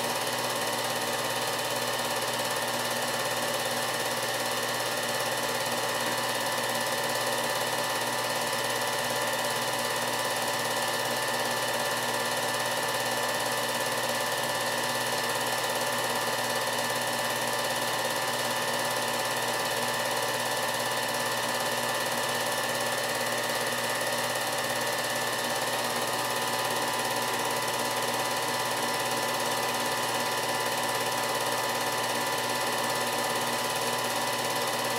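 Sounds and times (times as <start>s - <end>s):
film projector whirring and clattering: 0.0s - 34.9s.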